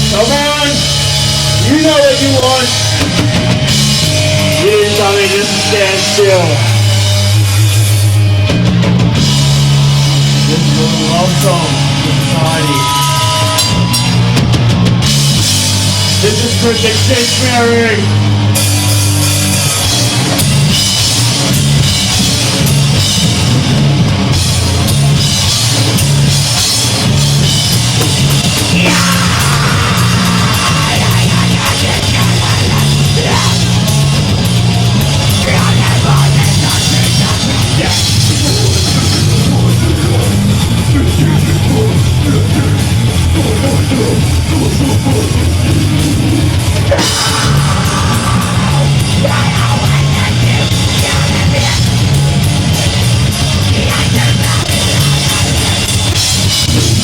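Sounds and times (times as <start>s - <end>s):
distorted guitars and bass: 0.0s - 57.0s
fast dense drumming: 0.0s - 57.0s.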